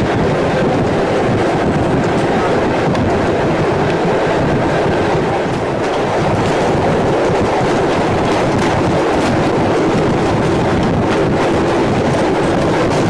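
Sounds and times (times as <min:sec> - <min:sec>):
train coaches rumbling: 0:00.0 - 0:13.0
wheels clicking over rails: 0:00.0 - 0:13.0.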